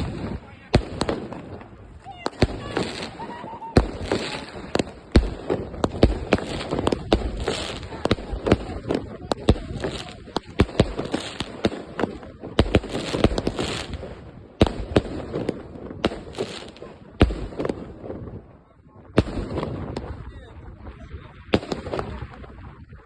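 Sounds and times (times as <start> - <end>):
firecrackers banging: 0.0 - 18.5.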